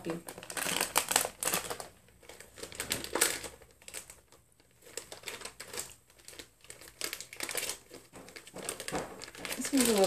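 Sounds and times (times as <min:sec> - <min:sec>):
plastic foil packet crinkling: 0:00.0 - 0:10.0.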